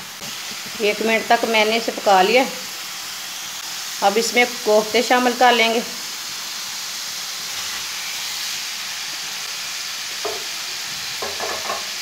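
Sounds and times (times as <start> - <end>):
masala sizzling in a frying pan: 0.0 - 12.0.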